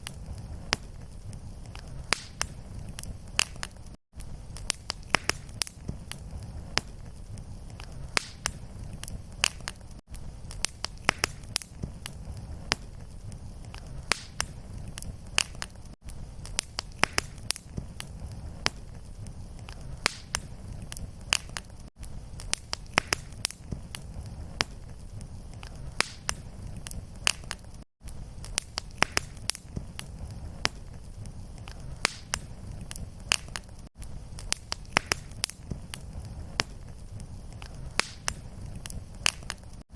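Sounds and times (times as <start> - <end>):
low rumble of flames: 0.0 - 39.9
wood fire popping and snapping: 0.0 - 39.9.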